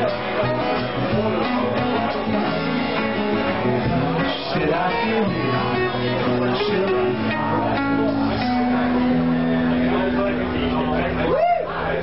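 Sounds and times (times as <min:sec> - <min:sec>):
acoustic guitar strummed: 0:00.0 - 0:11.3
live band playing: 0:00.0 - 0:11.4.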